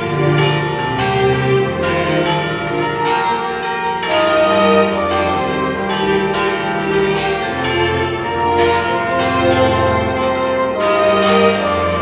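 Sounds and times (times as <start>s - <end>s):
church bells pealing: 0.0s - 12.0s.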